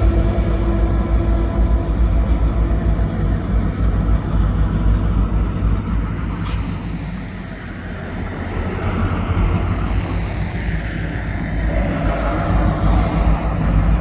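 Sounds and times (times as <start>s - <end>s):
diesel locomotive engines rumbling: 0.0s - 14.0s.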